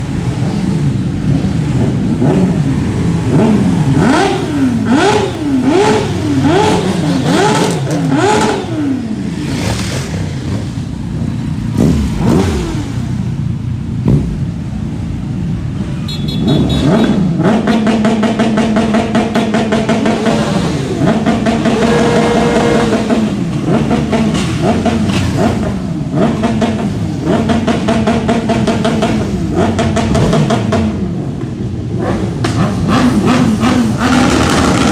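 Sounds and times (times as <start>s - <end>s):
motorcycle engines revving: 0.0s - 34.9s.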